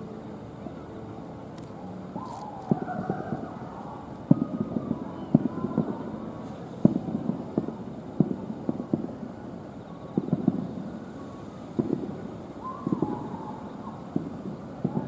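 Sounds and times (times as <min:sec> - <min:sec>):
steady background hum: 0:00.0 - 0:15.0
distant fireworks bangs: 0:02.2 - 0:03.6, 0:04.3 - 0:15.0.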